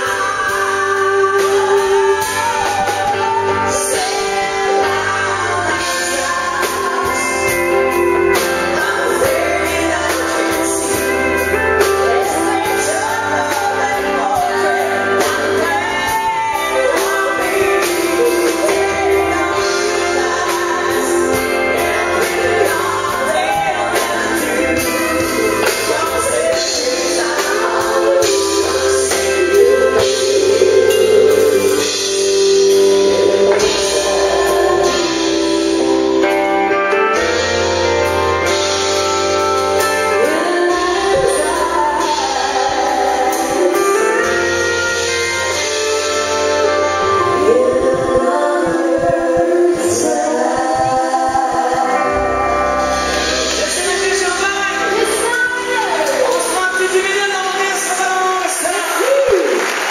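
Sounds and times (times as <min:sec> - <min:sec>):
drums with steady beat: 0:00.0 - 0:59.9
electric guitar: 0:00.0 - 0:59.9
man and woman singing: 0:00.0 - 0:59.9.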